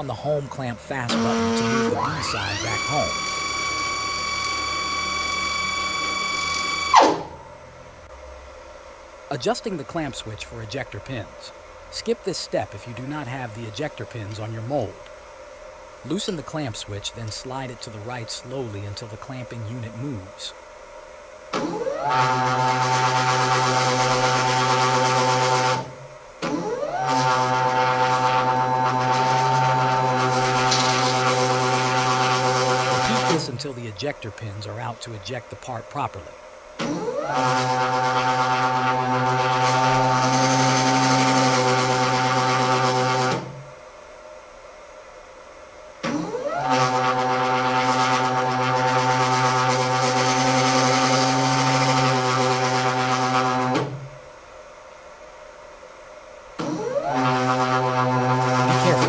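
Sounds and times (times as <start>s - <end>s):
stepper motor whine: 0.0s - 44.6s, 45.9s - 54.3s, 56.6s - 59.0s
faint hum: 0.0s - 59.0s.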